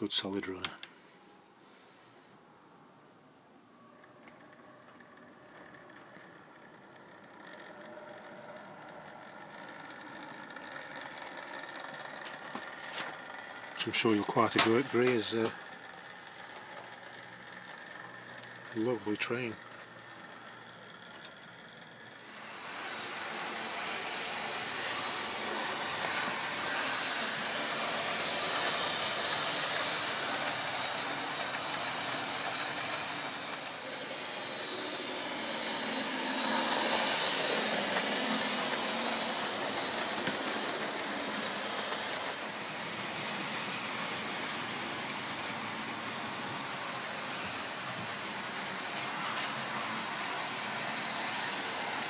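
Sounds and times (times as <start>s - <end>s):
model train motor whirr: 3.8s - 52.0s.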